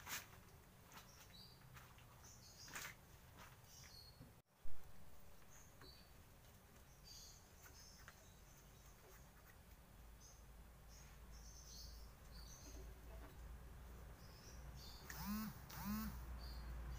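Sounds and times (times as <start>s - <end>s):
small birds chirping: 0.1s - 4.4s, 5.2s - 16.9s.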